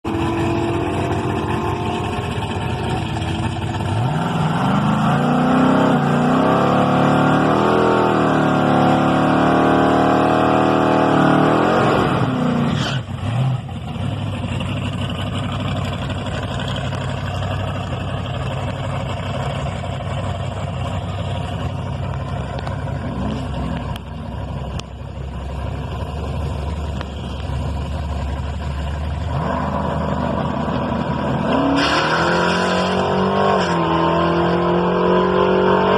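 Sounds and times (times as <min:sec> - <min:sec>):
muscle car engine revving: 0:00.0 - 0:35.9.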